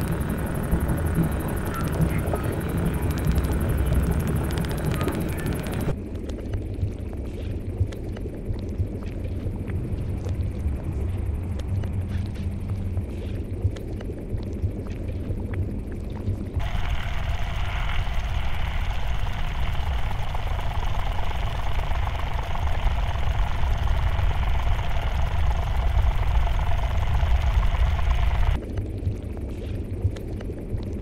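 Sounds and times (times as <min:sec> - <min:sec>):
deep low rumble: 0:00.0 - 0:31.0.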